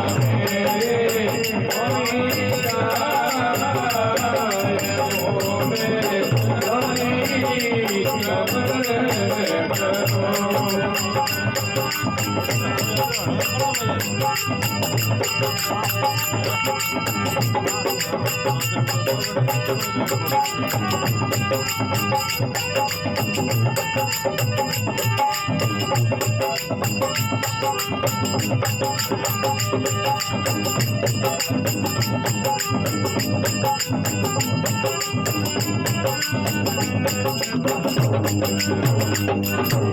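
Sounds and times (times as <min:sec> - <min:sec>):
jingling percussion: 0:00.0 - 0:39.9
steady held tones: 0:00.0 - 0:39.9.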